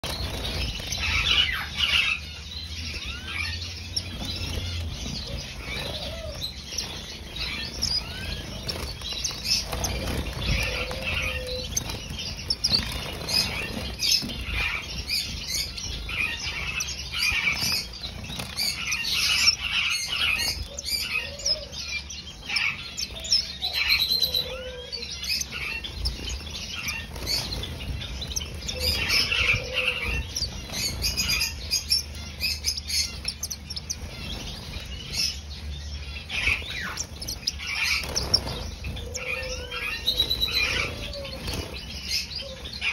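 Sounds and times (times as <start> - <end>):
wings fluttering: 0.0 - 21.7, 25.2 - 35.5, 36.2 - 42.9
finches chirping: 0.0 - 42.9
low bird calls: 0.0 - 42.9.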